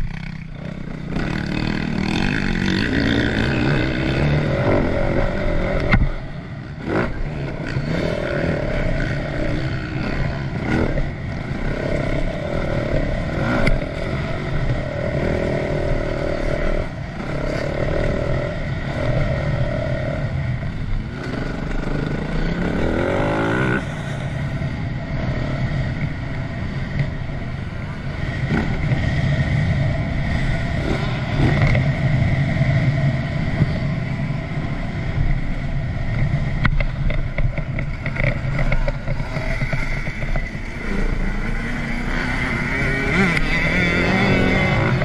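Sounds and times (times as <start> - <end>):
motocross bike engine revving: 0.0 - 45.0.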